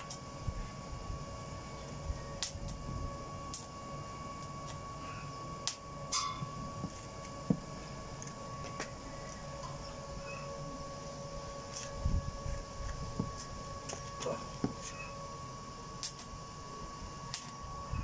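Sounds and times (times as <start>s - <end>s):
welding machine humming: 0.0s - 18.0s.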